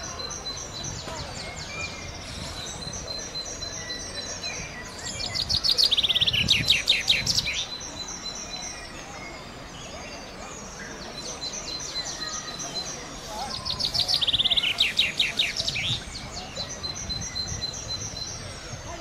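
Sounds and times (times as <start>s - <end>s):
loud rapid bird trill: 0.0s - 19.0s.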